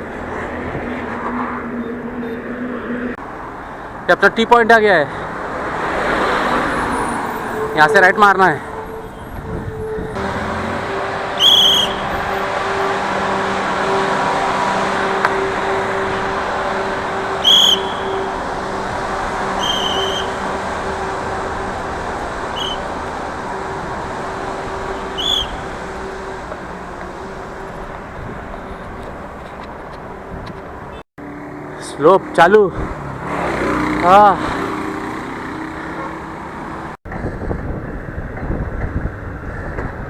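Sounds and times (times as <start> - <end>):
vehicle engine humming: 0.0 - 4.0, 5.2 - 40.0
road traffic: 0.0 - 40.0.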